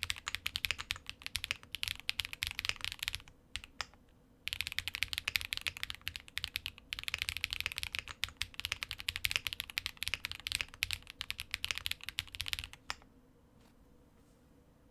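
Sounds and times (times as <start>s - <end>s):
fast typing on mechanical keyboard: 0.0s - 3.9s, 4.5s - 13.0s.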